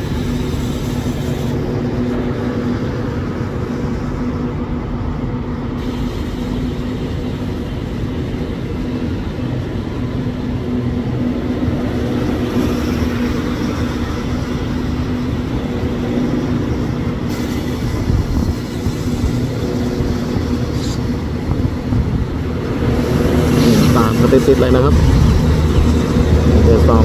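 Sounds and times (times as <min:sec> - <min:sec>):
train coaches rumbling on rails: 0:00.0 - 0:27.0
train engine hum: 0:00.0 - 0:27.0.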